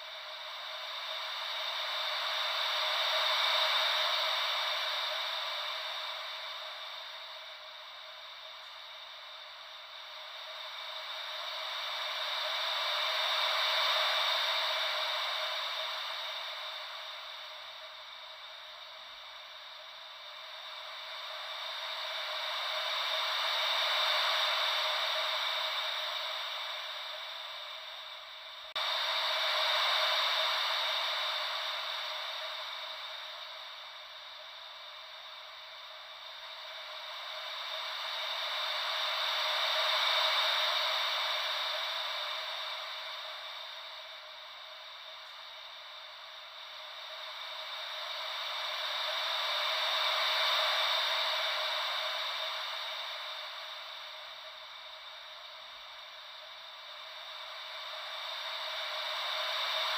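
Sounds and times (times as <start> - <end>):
ocean wave white noise: 0.1 - 8.3, 8.9 - 59.9.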